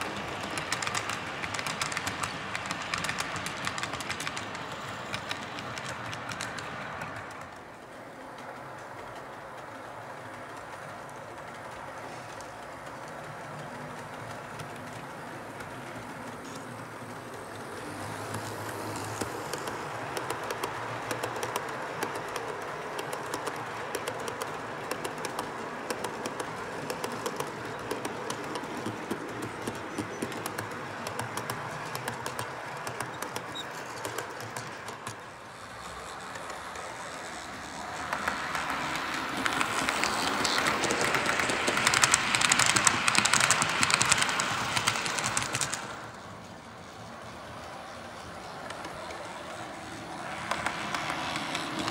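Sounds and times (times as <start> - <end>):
wheels clicking over rail joints: 0.0 - 51.9
model train motor hum: 9.0 - 51.9.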